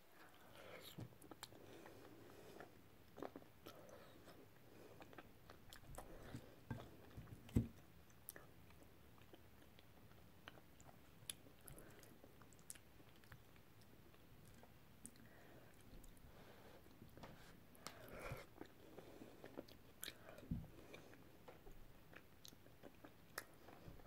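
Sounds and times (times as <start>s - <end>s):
person chewing food: 0.2s - 16.2s, 17.8s - 24.0s.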